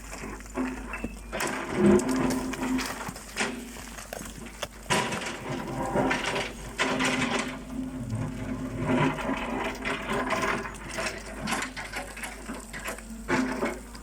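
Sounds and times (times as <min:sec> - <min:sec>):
excavator engine running: 0:00.0 - 0:14.0
metal clanks and knocks: 0:00.0 - 0:14.0.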